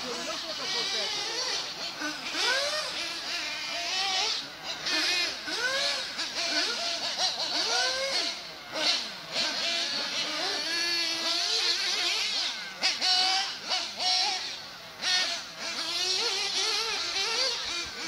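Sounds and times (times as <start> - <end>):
small nitro engines revving: 0.0 - 18.0.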